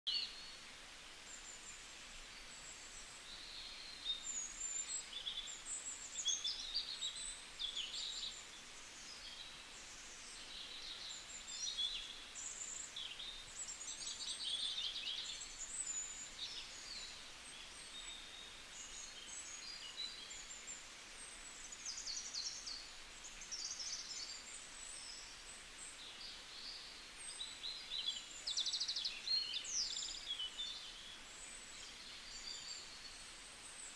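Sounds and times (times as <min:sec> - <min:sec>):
small birds chirping and singing: 0:00.0 - 0:33.9
faint steady hiss: 0:00.1 - 0:33.9.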